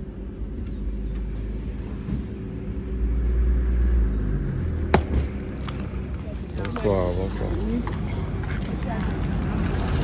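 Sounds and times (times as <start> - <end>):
motor vehicle engine rumble: 0.0 - 10.0.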